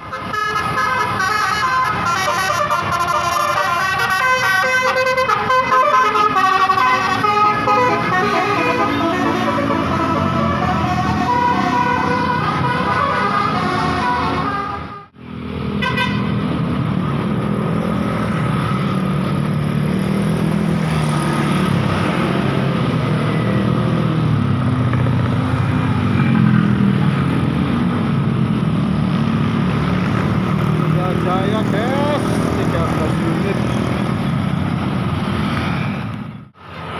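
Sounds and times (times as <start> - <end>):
traffic noise: 0.0 - 36.9.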